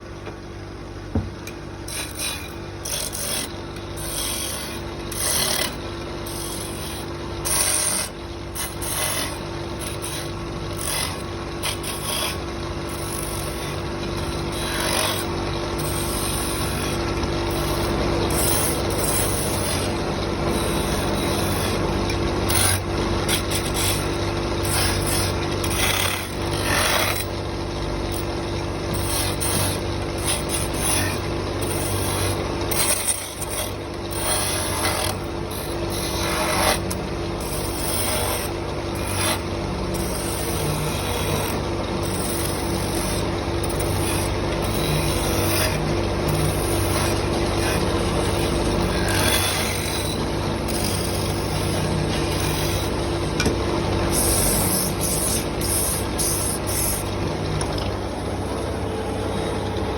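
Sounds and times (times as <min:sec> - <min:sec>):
steady low hum: 0:00.0 - 0:59.9
wood rasping: 0:01.9 - 0:27.4, 0:28.1 - 0:53.3, 0:54.0 - 0:57.2.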